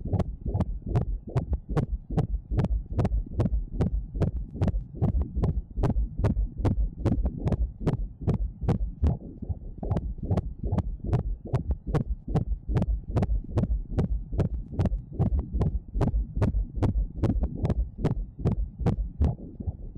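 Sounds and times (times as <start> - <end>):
doppler heartbeat pulse: 0.0 - 19.9
steady low rumble: 0.0 - 19.9.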